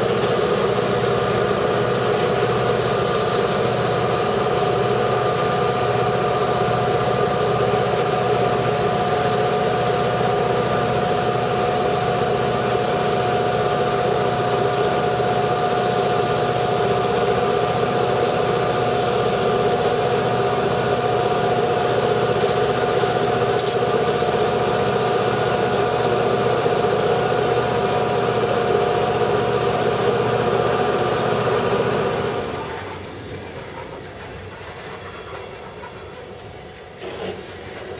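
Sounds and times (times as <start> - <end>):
freight cars rolling: 0.0 - 37.9
locomotive engine drone: 0.0 - 37.9.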